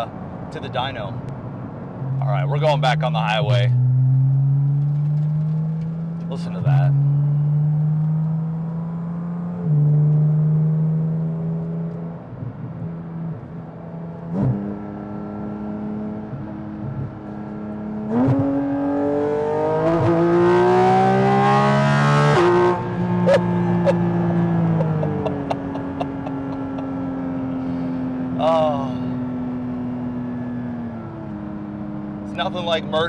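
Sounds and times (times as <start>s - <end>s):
car engine accelerating through gears: 1.9s - 33.0s.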